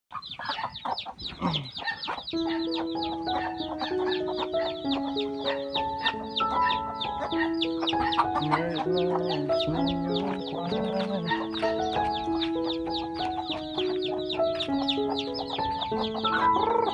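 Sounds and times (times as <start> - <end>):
chicks peeping: 0.1 - 16.9
background music with held notes: 2.2 - 16.9.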